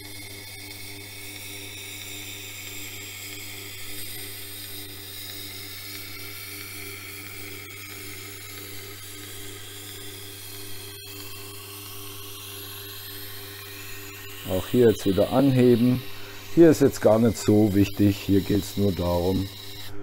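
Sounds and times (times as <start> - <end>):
knife blade on honing wheel: 0.0 - 20.0
motor humming: 0.0 - 20.0.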